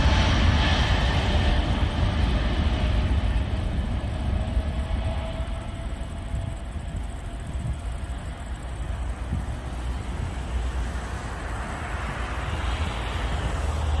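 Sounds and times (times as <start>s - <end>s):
jet engines at takeoff: 0.0s - 14.0s.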